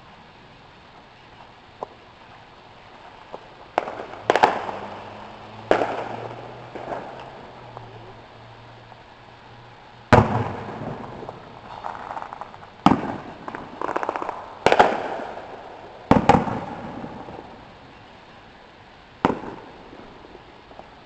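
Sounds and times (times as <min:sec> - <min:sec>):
fireworks crackling: 0:00.0 - 0:21.0
fireworks bangs: 0:00.9 - 0:18.4, 0:19.2 - 0:21.0.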